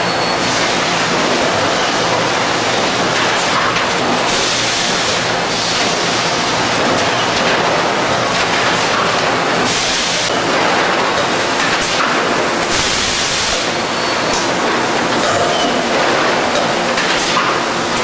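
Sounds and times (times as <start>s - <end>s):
machine running loudly: 0.0s - 18.0s.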